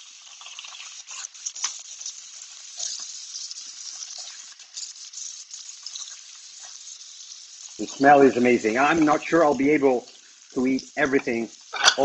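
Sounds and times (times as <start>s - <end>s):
crackles and pops: 0.0s - 12.0s
steak sizzling in a frying pan: 0.0s - 12.0s.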